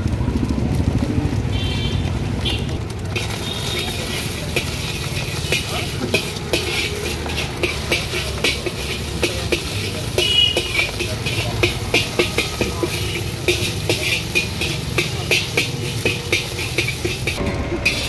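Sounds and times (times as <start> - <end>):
frying sizzle: 0.0 - 18.0
low engine rumble: 0.0 - 18.0
metal spatula scraping a wok: 3.1 - 18.0.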